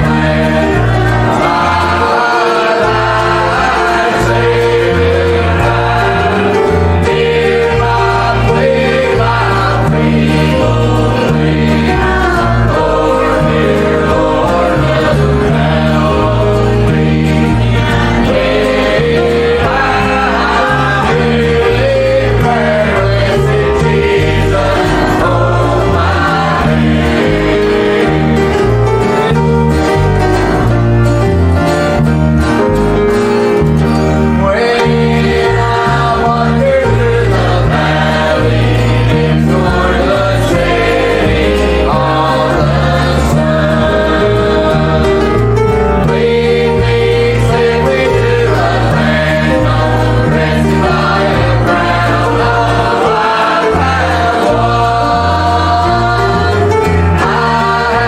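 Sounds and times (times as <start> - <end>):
bluegrass guitar accompaniment: 0.0 - 58.0
gospel singing: 0.0 - 58.0.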